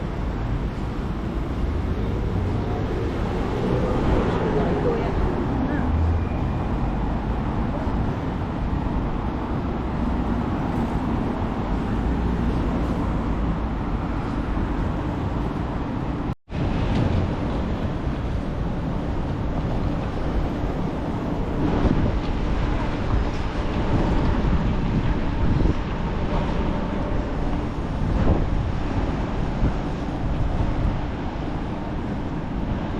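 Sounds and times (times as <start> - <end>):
passing traffic rumble: 0.0 - 32.9.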